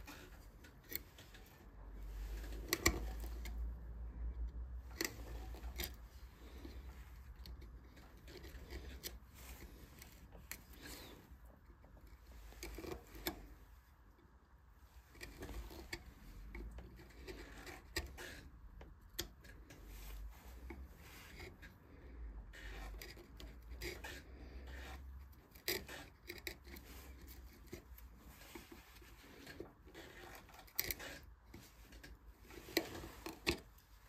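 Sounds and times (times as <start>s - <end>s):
wood scraping and cutting strokes: 4.8s - 14.1s, 14.8s - 34.0s.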